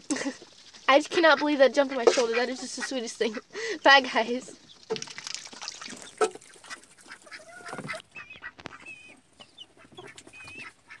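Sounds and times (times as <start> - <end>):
ducks quacking: 0.0 - 11.0
baby chicks peeping: 0.1 - 5.0, 5.6 - 11.0.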